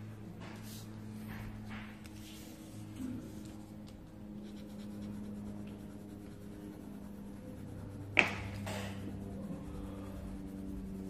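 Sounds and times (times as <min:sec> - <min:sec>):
pencil scratching on paper: 0:00.0 - 0:11.0
steady low hum: 0:00.0 - 0:11.0.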